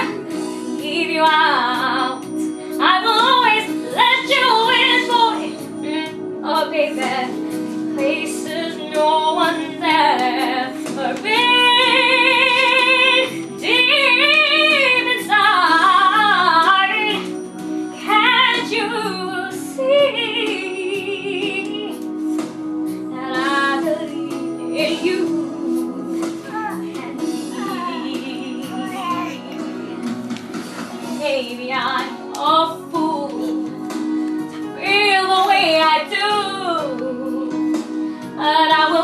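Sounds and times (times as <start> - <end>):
instrumental accompaniment: 0.0 - 39.0
woman singing with vibrato: 0.8 - 17.4, 18.0 - 22.1, 23.1 - 26.4, 27.3 - 28.9, 31.1 - 33.7, 34.5 - 37.8, 38.4 - 39.0.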